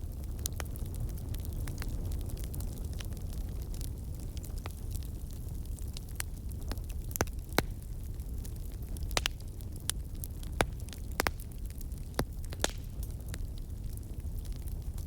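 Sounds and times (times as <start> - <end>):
campfire crackling: 0.0 - 15.0
fire pops: 0.0 - 15.0.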